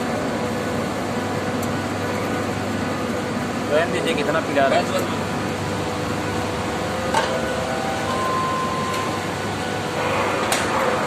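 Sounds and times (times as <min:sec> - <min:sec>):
air conditioning plant running: 0:00.0 - 0:11.0.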